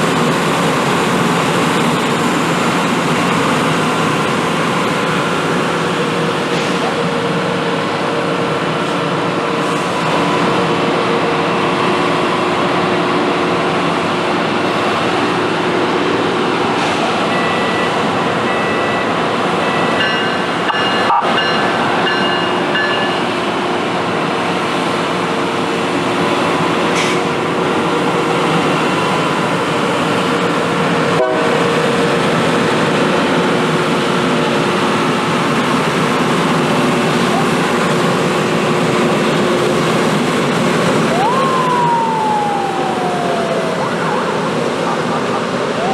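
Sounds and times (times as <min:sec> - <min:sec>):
rail grinding train roaring: 0:00.0 - 0:45.9.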